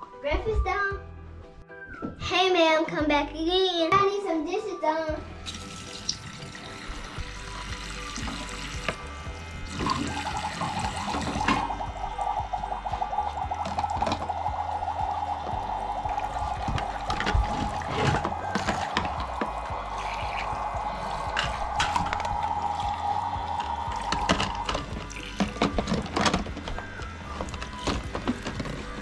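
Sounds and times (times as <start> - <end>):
faucet water running into sink: 5.4 - 29.0.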